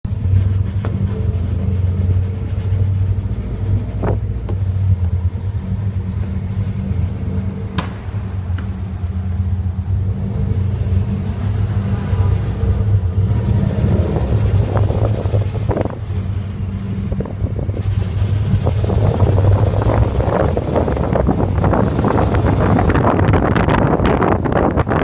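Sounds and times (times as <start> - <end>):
car engine humming: 0.0 - 25.0
transmission rattling and grinding: 0.1 - 25.0.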